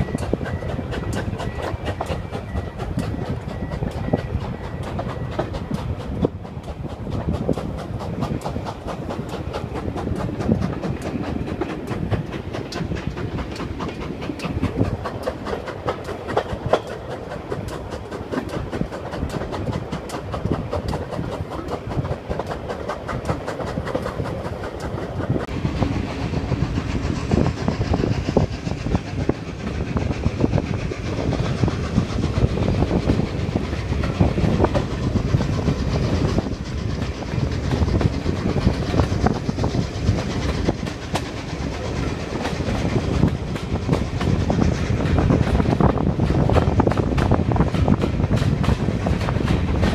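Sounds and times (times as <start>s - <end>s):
carriage wheels clickety-clack: 0.0s - 49.9s
steam hiss: 0.0s - 49.9s
steam locomotive beats and rumble: 0.0s - 49.9s.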